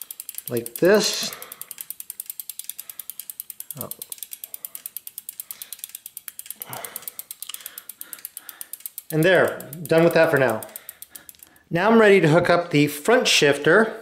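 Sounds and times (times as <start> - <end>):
bicycle freewheel clicking: 0.0 - 11.8.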